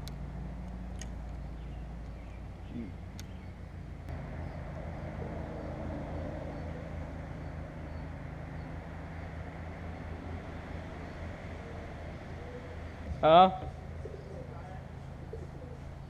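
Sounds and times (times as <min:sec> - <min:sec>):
engine running low drone: 0:00.0 - 0:16.0.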